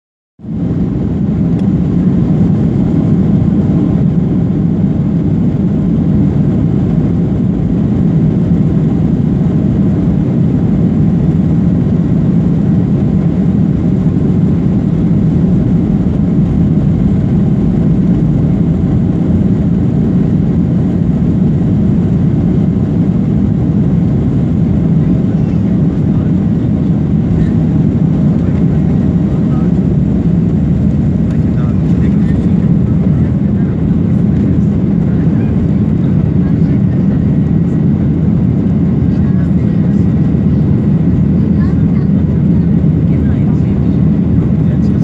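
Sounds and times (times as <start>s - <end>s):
jet engines rumbling: 0.4s - 45.0s.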